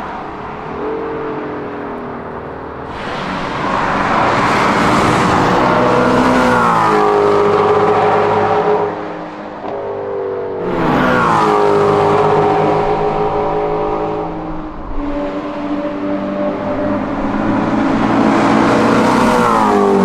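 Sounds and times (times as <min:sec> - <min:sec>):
car engine pulling hard: 0:00.0 - 0:20.0.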